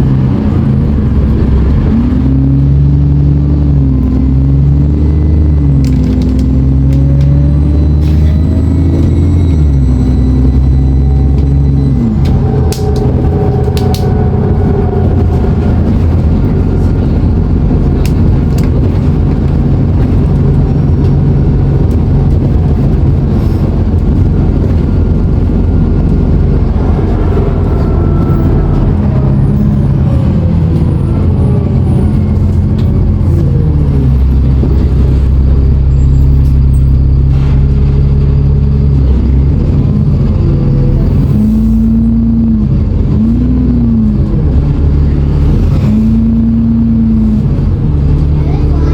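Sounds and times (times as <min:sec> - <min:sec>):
bus engine with turbo whine: 0:00.0 - 0:48.9.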